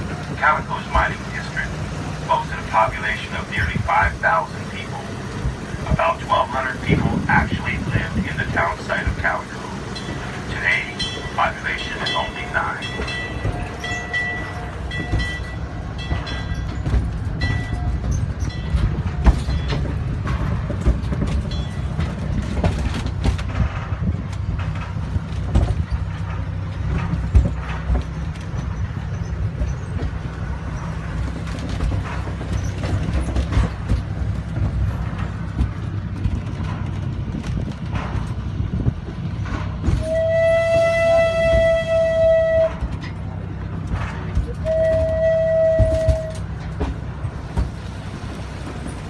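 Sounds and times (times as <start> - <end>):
train rumbling on track: 0.0 - 49.0.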